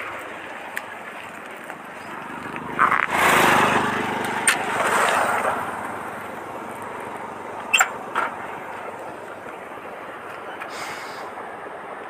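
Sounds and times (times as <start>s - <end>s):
bicycle wind and road noise: 0.0s - 12.0s.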